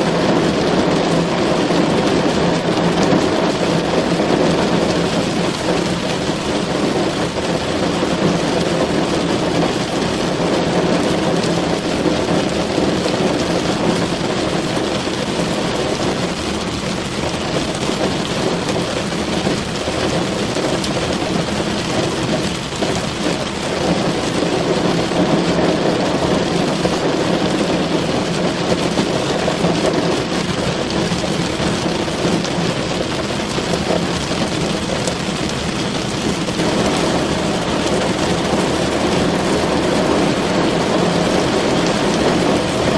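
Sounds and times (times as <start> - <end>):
heavy rain on a car roof: 0.0 - 42.9.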